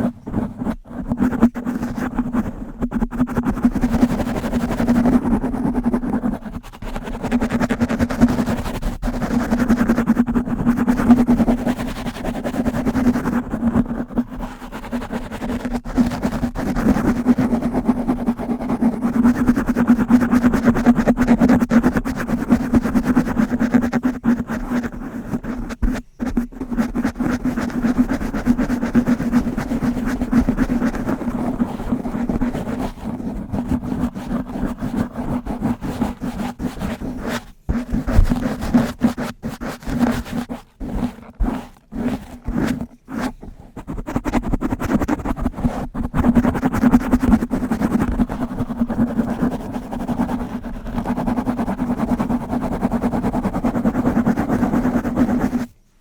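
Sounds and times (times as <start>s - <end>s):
brush scratching a microphone: 0.0s - 56.0s.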